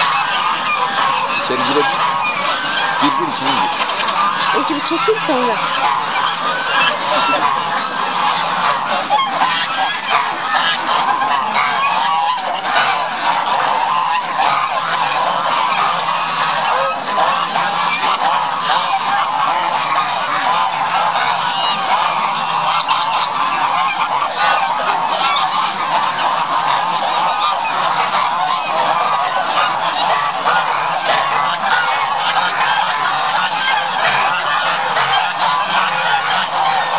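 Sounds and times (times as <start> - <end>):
geese honking: 0.0 - 36.9.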